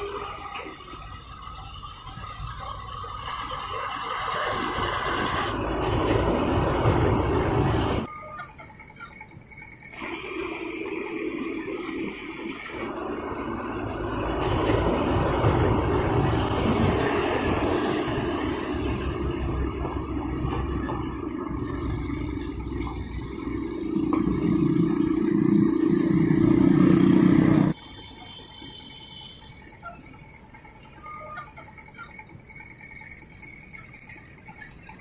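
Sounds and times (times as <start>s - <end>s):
truck engine rumble: 0.0s - 35.0s.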